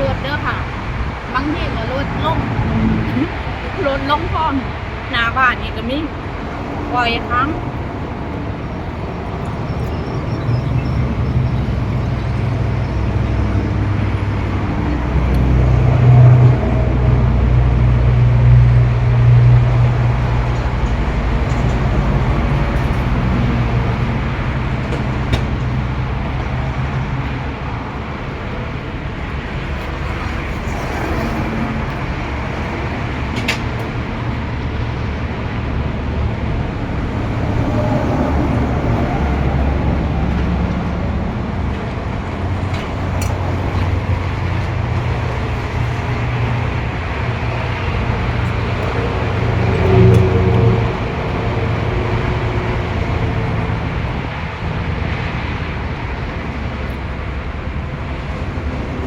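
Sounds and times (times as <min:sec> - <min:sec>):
traffic background drone: 0:00.0 - 0:59.0
vehicle engine rumble passing: 0:00.0 - 0:59.0.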